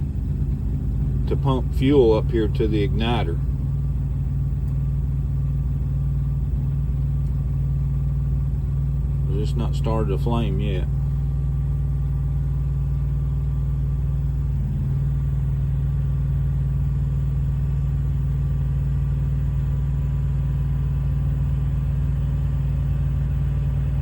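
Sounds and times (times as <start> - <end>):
generator humming: 0.0 - 24.0.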